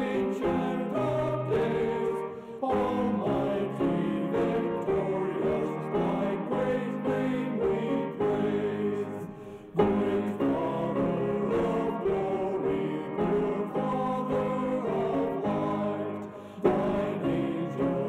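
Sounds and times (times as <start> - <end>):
men singing a hymn in harmony: 0.0 - 18.0.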